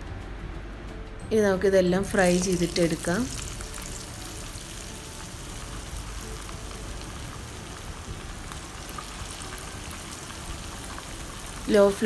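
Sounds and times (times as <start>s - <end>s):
chicken sizzling in oil: 2.1s - 12.0s.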